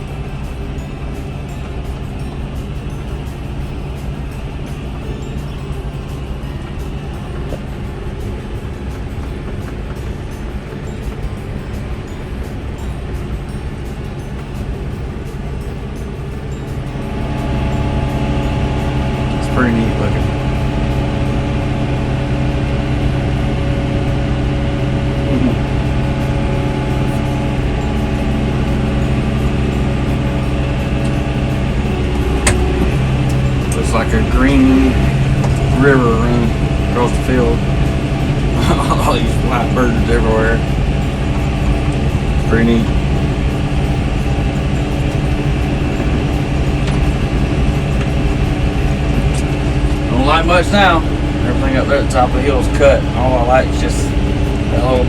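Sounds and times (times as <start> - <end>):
tractor engine drone: 0.0 - 55.0.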